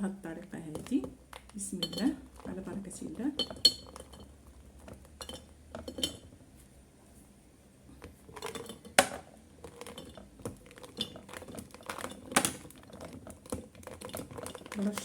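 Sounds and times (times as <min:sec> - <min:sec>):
dried fruit clinking into glass jar: 0:00.7 - 0:06.4, 0:08.3 - 0:15.0.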